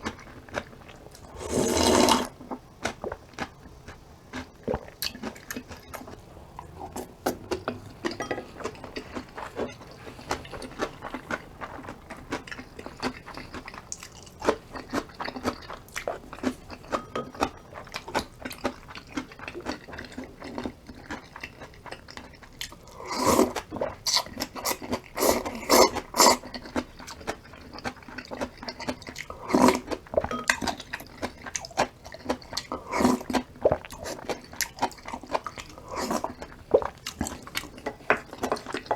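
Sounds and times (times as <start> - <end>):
close chewing and crunching: 0.0 - 38.9.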